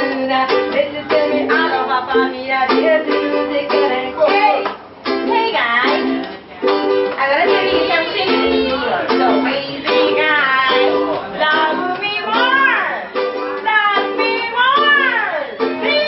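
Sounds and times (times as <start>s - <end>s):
person singing: 0.0s - 16.0s
ukuleles strumming chords: 0.0s - 16.0s.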